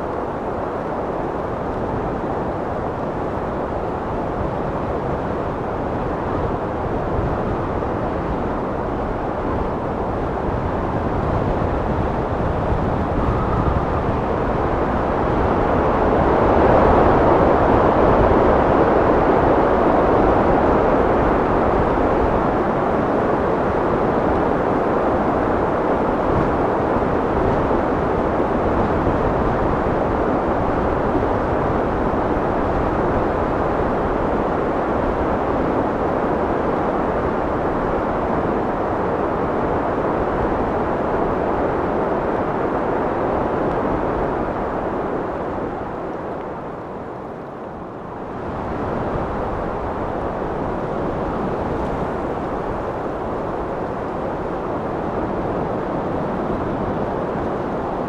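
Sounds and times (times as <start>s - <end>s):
wind blowing: 0.0s - 58.0s.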